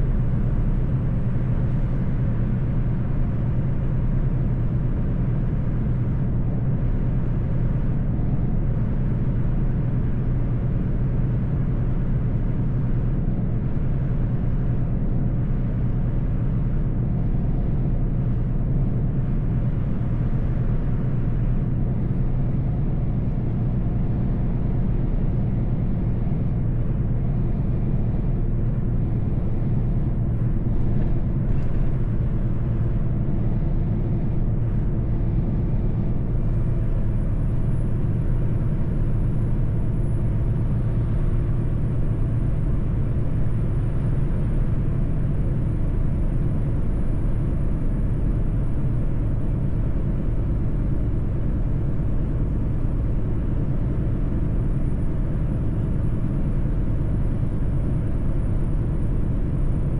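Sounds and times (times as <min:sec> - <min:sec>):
truck engine hum: 0:00.0 - 0:59.9.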